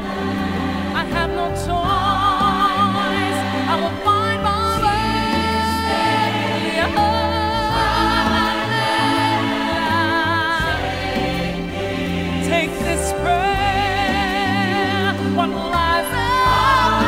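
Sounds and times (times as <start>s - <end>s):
choir singing: 0.0s - 17.0s
song with held sung notes: 0.0s - 17.0s
steady bass line: 0.0s - 17.0s.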